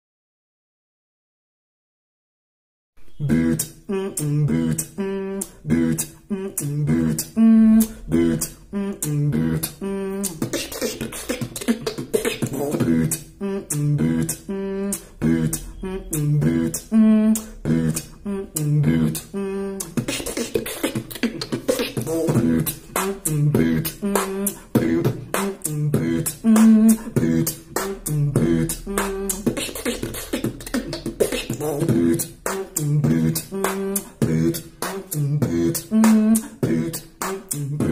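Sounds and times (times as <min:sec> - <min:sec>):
person beatboxing: 0:03.0 - 0:37.9.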